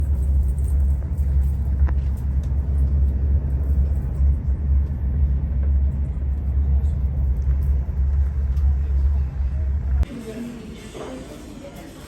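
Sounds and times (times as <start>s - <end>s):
boat motor rumbling: 0.0s - 10.0s.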